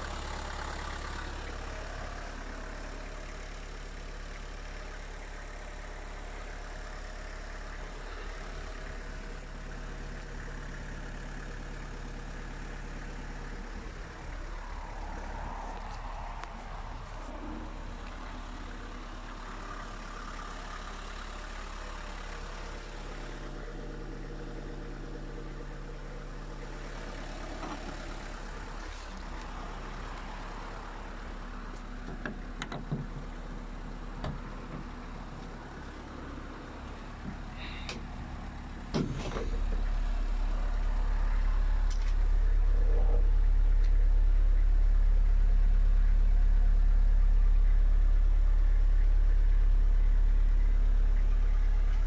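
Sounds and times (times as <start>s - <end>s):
van engine running: 0.0s - 52.0s.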